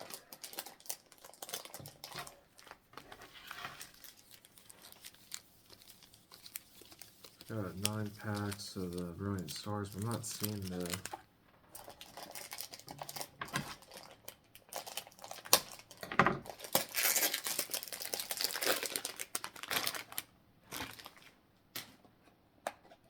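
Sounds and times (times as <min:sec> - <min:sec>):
foil packs crinkling: 0:00.0 - 0:21.4.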